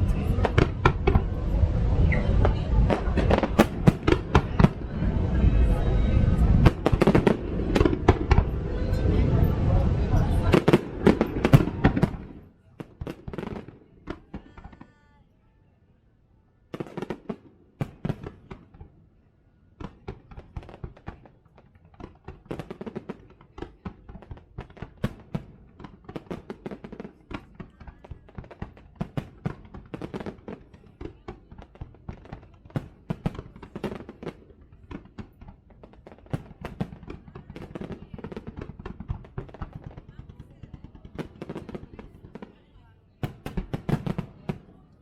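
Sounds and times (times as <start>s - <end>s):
fireworks bangs and crackles: 0.0s - 15.2s, 16.7s - 19.0s, 19.7s - 45.0s.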